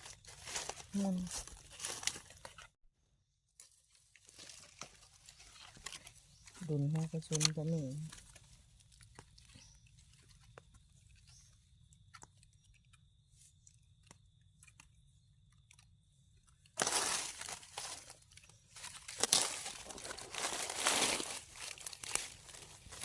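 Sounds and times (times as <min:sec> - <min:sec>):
crunching of dry leaf litter: 0:00.0 - 0:02.8, 0:03.6 - 0:12.7, 0:15.6 - 0:23.0.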